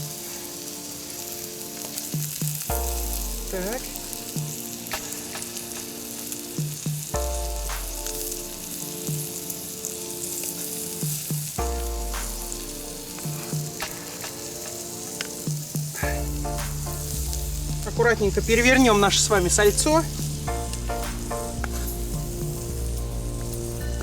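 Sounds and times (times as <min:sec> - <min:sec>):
food sizzling in a frying pan: 0:00.0 - 0:24.0
soft background music chords: 0:00.0 - 0:24.0.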